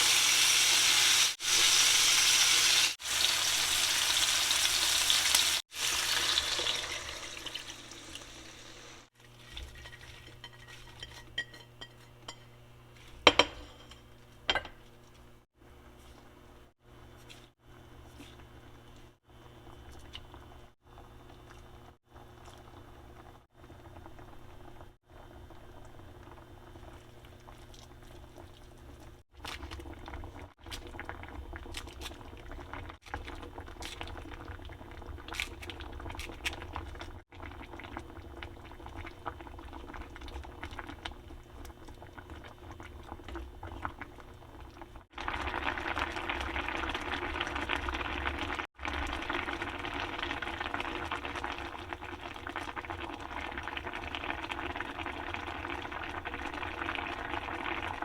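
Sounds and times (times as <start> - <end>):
stew boiling and bubbling: 0.0 - 58.0.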